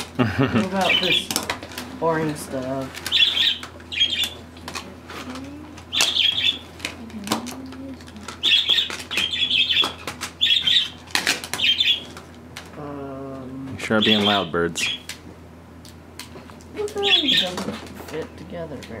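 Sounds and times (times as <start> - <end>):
birds chirping: 0.1 - 15.2, 16.8 - 17.9.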